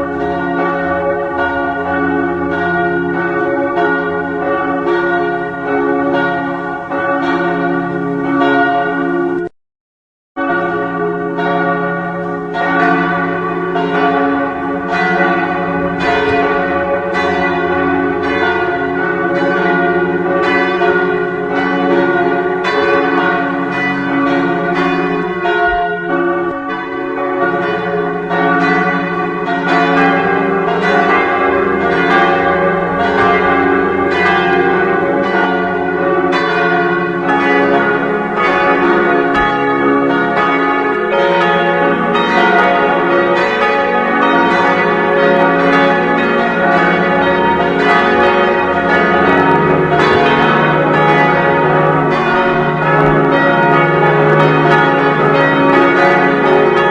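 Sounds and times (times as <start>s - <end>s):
church bells ringing: 0.0s - 9.5s, 10.4s - 56.9s.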